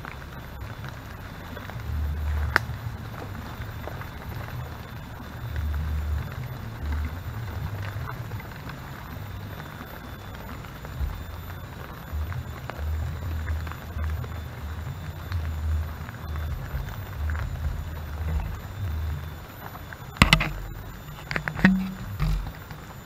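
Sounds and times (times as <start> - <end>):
faint ticks and crackles: 0.0 - 23.0.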